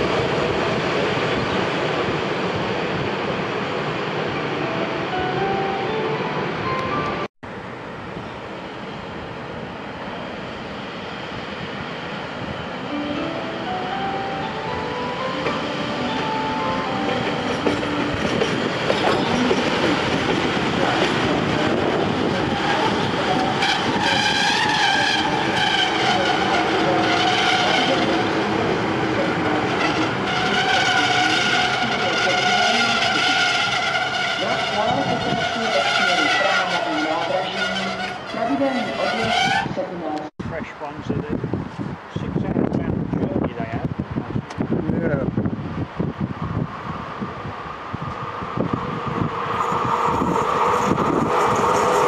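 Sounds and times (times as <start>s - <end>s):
electric locomotive passing: 0.0s - 52.0s
wheels rumbling on rail: 0.0s - 52.0s.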